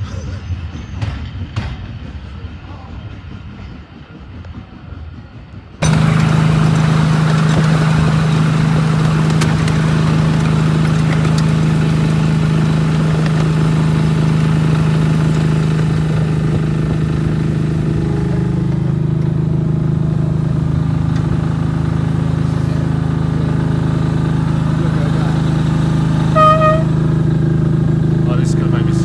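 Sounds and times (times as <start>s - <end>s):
outdoor background: 0.0s - 29.0s
small locomotive engine humming: 0.0s - 29.0s.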